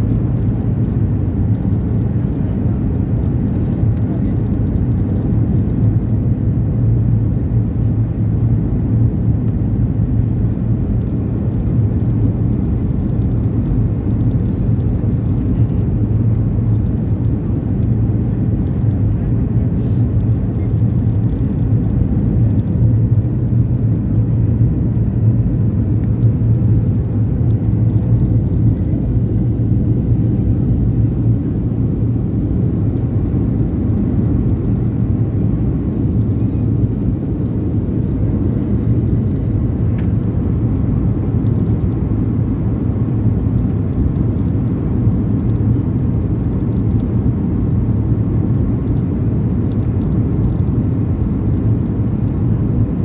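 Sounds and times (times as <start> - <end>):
jet engines droning: 0.0 - 53.0.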